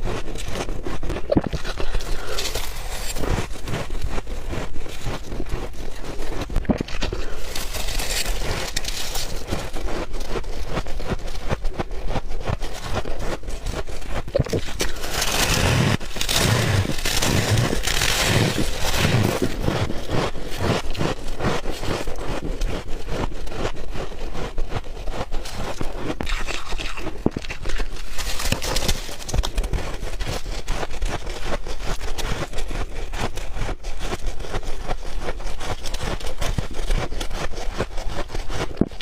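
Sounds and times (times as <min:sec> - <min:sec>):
chewing crunchy ice: 0:00.0 - 0:39.0.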